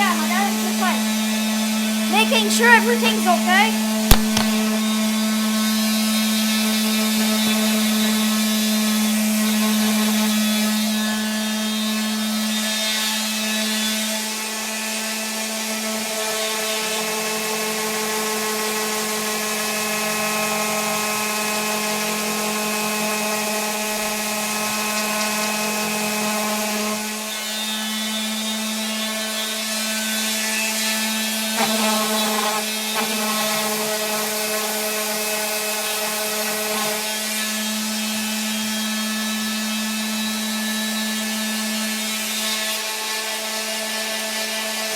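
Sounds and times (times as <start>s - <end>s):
electric sander on wood: 6.2s - 44.9s.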